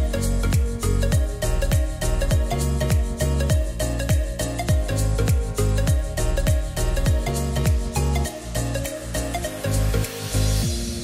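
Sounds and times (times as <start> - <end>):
music with deep thumping beat: 0.0 - 11.0.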